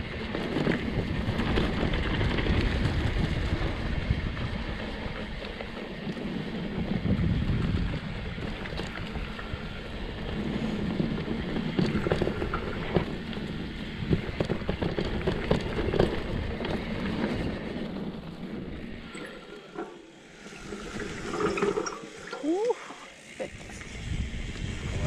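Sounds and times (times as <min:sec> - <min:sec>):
wind on microphone: 0:00.0 - 0:19.6, 0:23.5 - 0:25.0
bike clacking and rattling: 0:00.0 - 0:25.0
tyre and trail rumble: 0:00.0 - 0:25.0.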